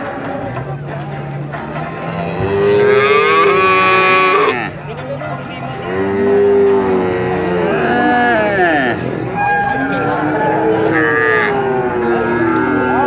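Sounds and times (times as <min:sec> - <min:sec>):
cattle mooing: 0:01.6 - 0:04.8, 0:05.7 - 0:13.0.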